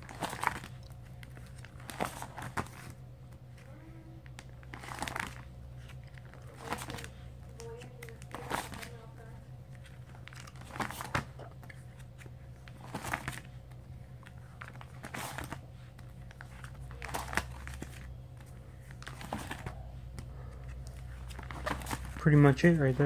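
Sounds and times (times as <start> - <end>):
plastic binder pages crinkling: 0.0 - 23.0.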